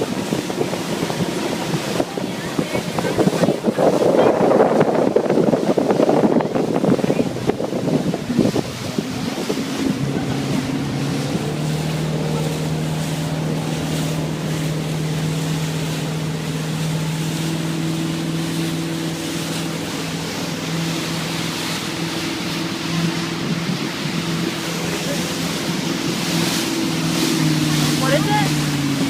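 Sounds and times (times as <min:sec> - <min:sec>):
motorboat engine running: 0:00.0 - 0:29.0
wind buffeting microphone: 0:00.0 - 0:29.0.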